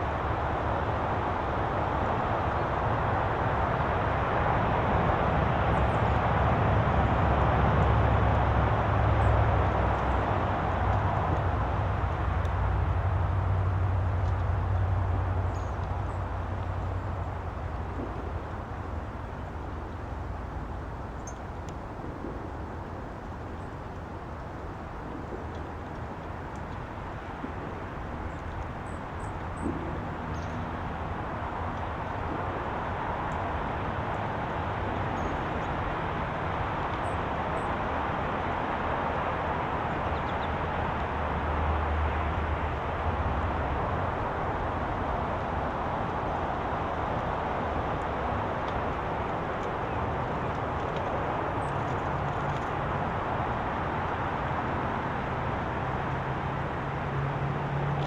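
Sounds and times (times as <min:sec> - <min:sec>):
outdoor rumbling noise: 0:00.0 - 0:58.0.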